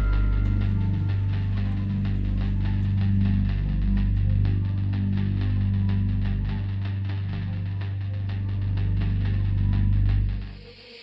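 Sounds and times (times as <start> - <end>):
background music with heavy bass: 0.0 - 11.0.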